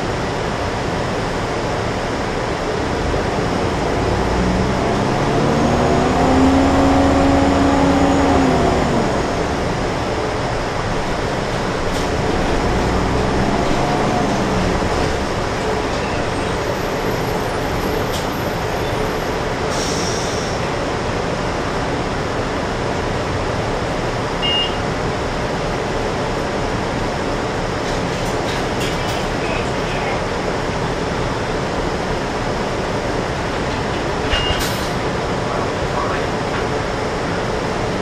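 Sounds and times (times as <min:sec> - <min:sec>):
bus engine and road noise: 0:00.0 - 0:38.0.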